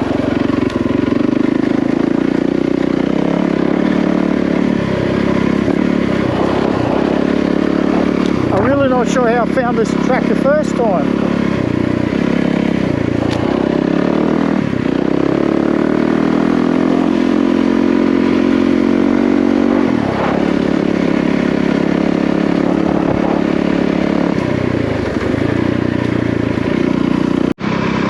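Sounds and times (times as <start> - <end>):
dirt bike engine under throttle: 0.0 - 28.0.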